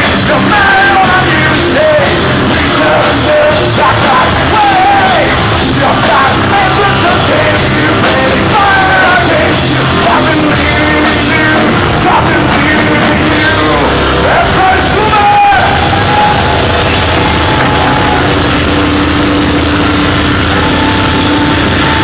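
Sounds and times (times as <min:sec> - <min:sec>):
person singing: 0:00.0 - 0:22.0
rock band playing live: 0:00.0 - 0:22.0.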